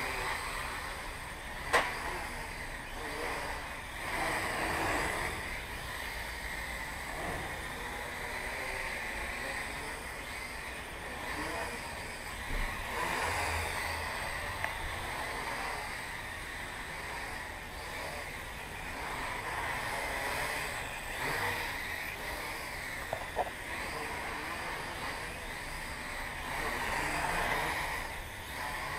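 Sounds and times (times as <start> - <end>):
quadcopter motors whirring: 0.0 - 28.9.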